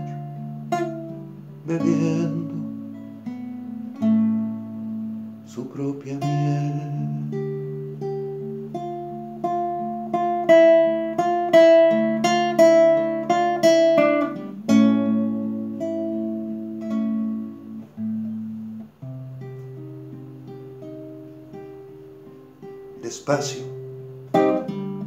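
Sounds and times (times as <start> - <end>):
solo classical guitar: 0.0 - 25.0.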